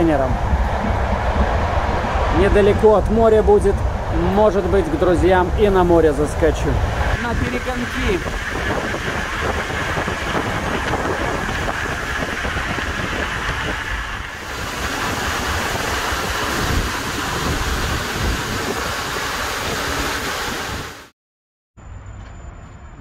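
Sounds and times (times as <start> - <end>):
train wind and wheel noise: 0.0 - 21.0.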